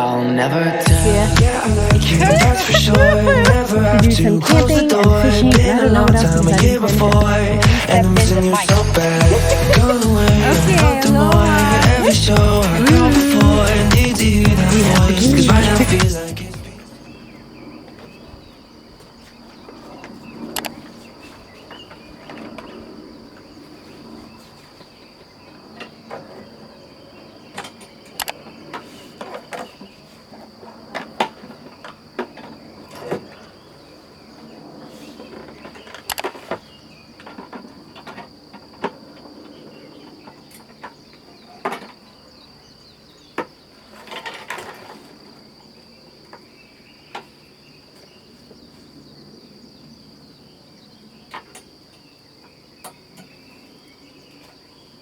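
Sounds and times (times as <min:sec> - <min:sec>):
crickets trilling: 0:00.9 - 0:55.0.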